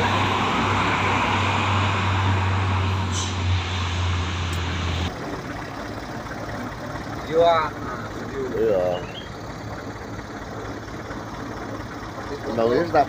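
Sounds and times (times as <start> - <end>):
outdoor background: 0.0 - 13.0
road noise: 0.0 - 13.0
truck engine running: 0.0 - 13.0.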